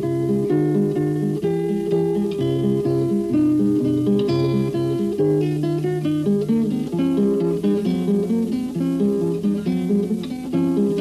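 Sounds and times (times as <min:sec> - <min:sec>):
acoustic guitar melody: 0:00.0 - 0:11.0.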